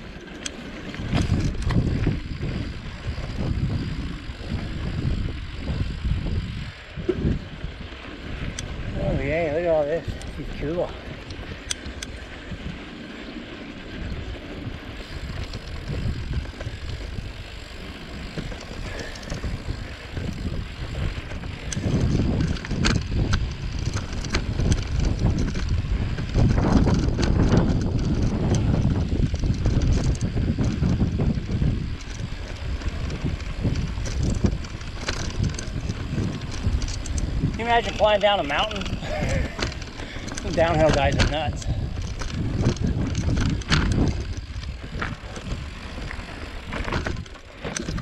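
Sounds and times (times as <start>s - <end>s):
bike tyres rumbling over dirt: 0.0s - 48.0s
wind buffeting microphone: 0.0s - 48.0s
bike knocks and rattles: 0.1s - 12.9s, 13.5s - 48.0s.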